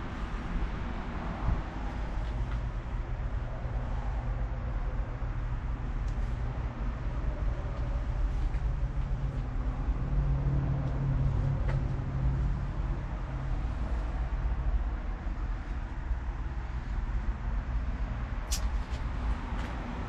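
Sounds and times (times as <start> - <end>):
engine hum: 0.0 - 20.0
road traffic rumble: 0.0 - 20.0.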